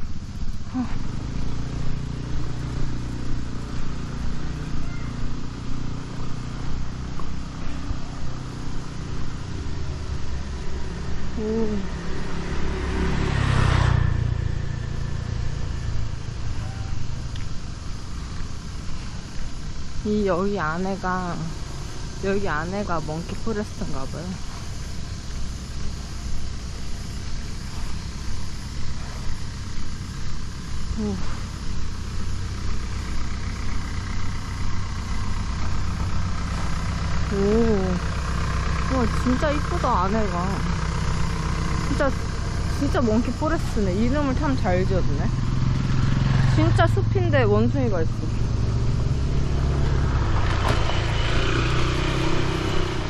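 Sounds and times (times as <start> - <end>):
road traffic passing by: 0.0 - 53.0
vehicle engine running: 0.0 - 53.0.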